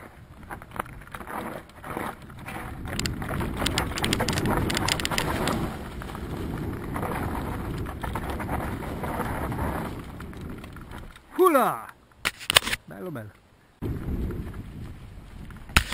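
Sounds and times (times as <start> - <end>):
bike rattling over bumps: 0.0 - 11.4, 13.8 - 15.9
bike tyres crunching stones and leaves: 0.0 - 15.9.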